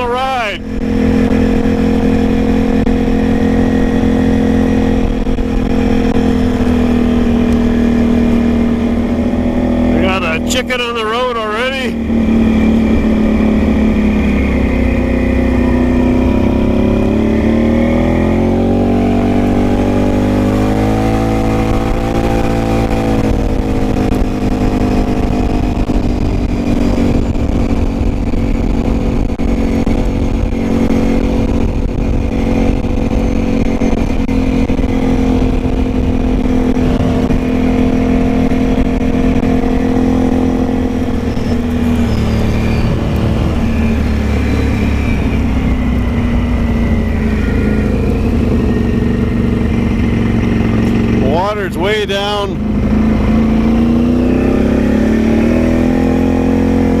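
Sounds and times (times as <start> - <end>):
quad bike engine accelerating: 0.0 - 57.0
tyre and road rumble: 0.0 - 57.0.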